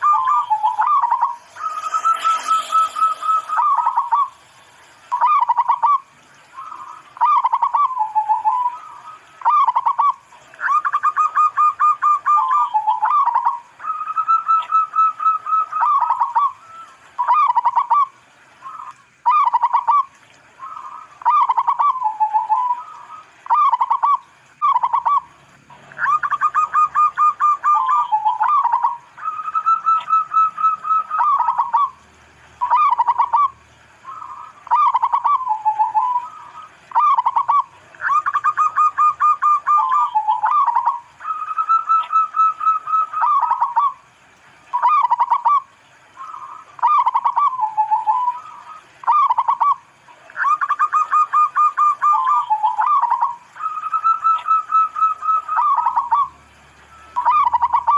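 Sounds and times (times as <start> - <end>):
dove cooing: 0.0 - 4.5, 5.1 - 44.0, 44.7 - 49.8, 50.4 - 56.3, 56.9 - 57.9.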